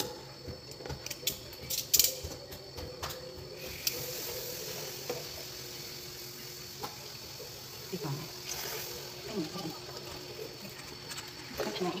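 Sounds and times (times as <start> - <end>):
pork fat sizzling: 0.0 - 12.0.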